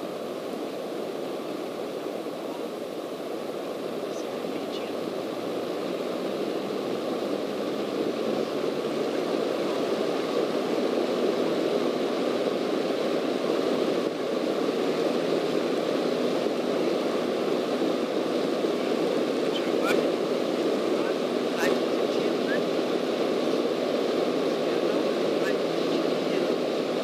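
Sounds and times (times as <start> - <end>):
airflow noise: 0.0 - 27.0
light aircraft engine drone: 0.0 - 27.0.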